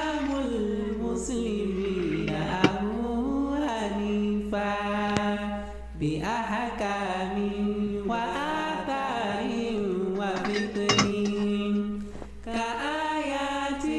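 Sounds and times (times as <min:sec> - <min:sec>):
chanted vocal melody: 0:00.0 - 0:13.9.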